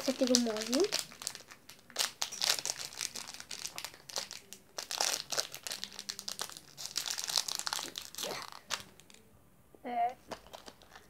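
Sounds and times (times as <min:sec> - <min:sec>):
plastic packet crinkling: 0:00.0 - 0:09.2, 0:10.2 - 0:11.0.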